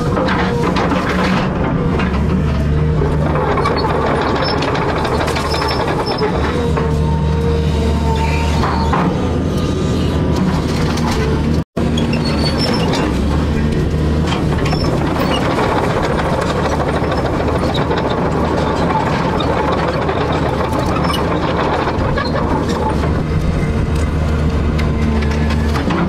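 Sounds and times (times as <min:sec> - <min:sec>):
metal rattling and clanking: 0:00.0 - 0:07.1, 0:10.4 - 0:26.0
diesel engine running: 0:00.0 - 0:26.0.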